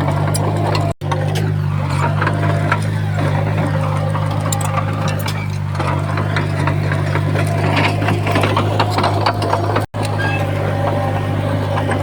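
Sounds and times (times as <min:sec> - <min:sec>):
bulldozer diesel engine running: 0:00.0 - 0:12.0
clicks and rattles: 0:00.0 - 0:12.0.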